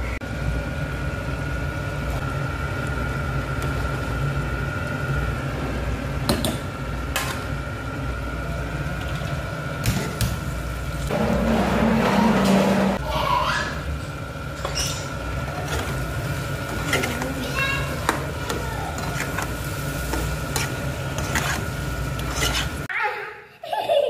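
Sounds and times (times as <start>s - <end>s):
gas hob rumble with whine: 0.0s - 22.9s.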